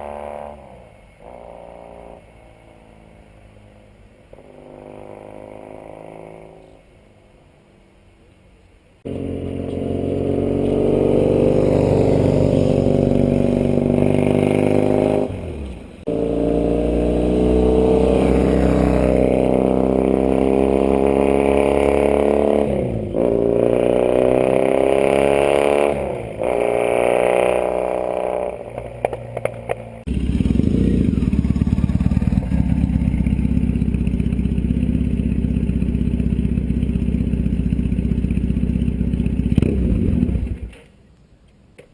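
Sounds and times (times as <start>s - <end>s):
motorcycle engine revving: 0.0s - 3.0s, 4.3s - 6.8s, 9.0s - 40.7s.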